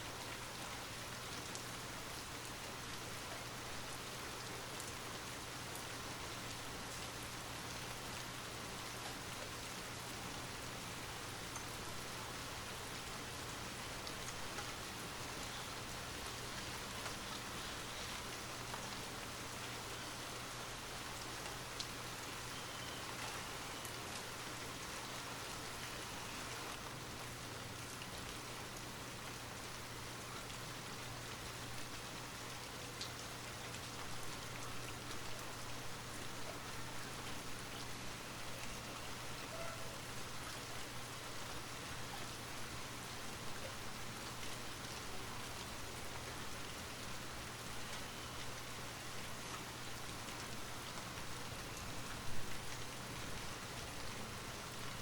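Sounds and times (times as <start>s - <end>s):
light rain hiss: 0.0s - 55.0s.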